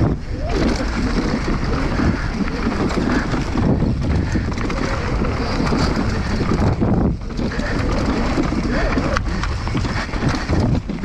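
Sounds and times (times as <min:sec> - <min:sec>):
mountain bike rumble: 0:00.0 - 0:11.0
wind buffeting microphone: 0:00.0 - 0:11.0.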